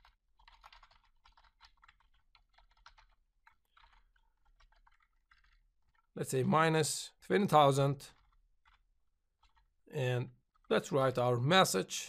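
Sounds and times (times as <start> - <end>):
faint keyboard typing: 0.0 - 6.5, 7.1 - 11.2.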